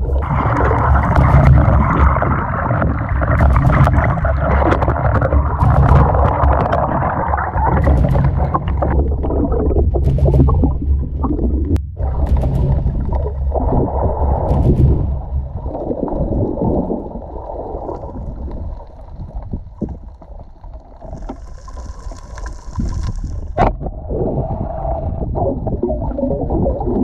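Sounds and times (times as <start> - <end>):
muffled water sloshing: 0.0 - 27.0.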